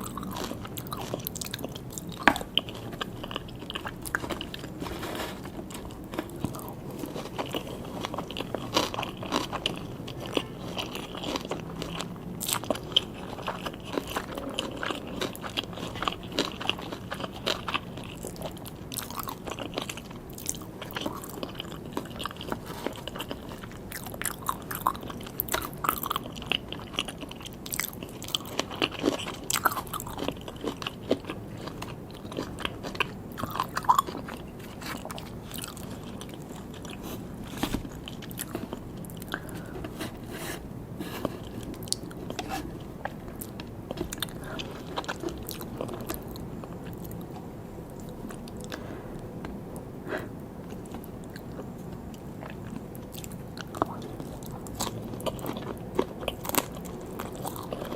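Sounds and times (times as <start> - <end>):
chewing crunches: 0.0 - 40.3, 41.2 - 49.6, 50.2 - 57.9.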